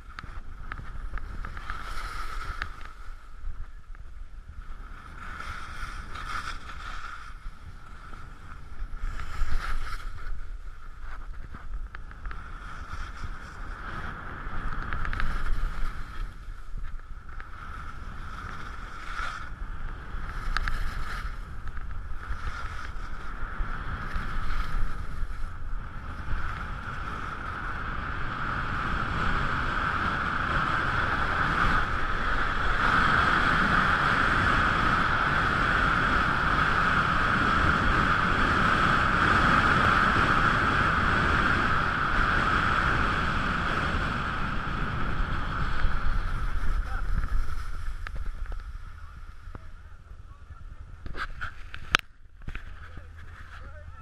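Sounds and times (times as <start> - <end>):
skis sliding on snow: 0.0 - 49.7
wind rushing over camera: 0.0 - 54.0.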